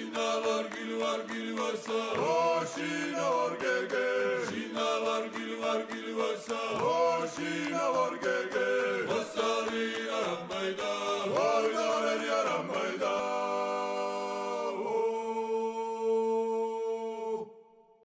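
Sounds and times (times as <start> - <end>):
choir singing a cappella: 0.0 - 18.0.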